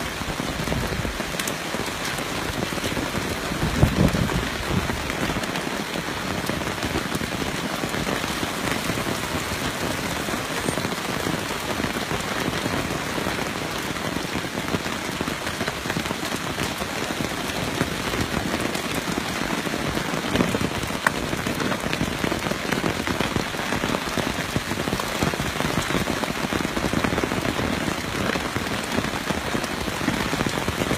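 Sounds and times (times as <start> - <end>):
falling rain: 0.0 - 30.9
swollen creek rushing: 0.0 - 30.9.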